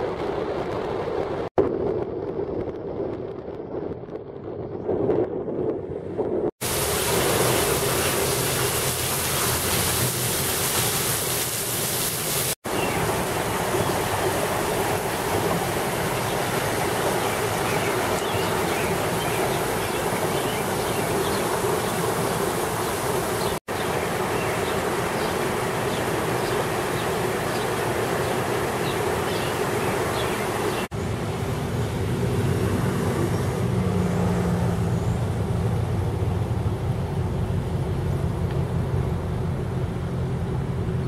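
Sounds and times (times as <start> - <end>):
floodwater rushing: 6.6 - 41.0.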